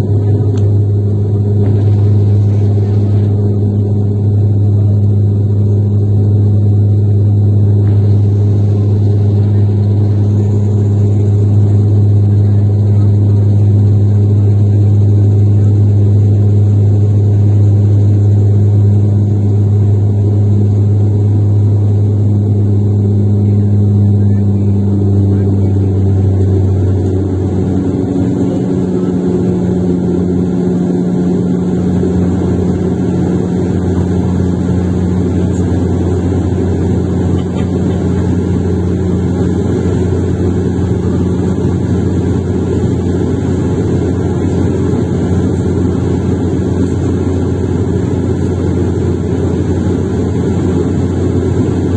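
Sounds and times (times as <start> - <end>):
cabin low hum: 0.0 - 51.9
turboprop engine drone: 0.0 - 51.9.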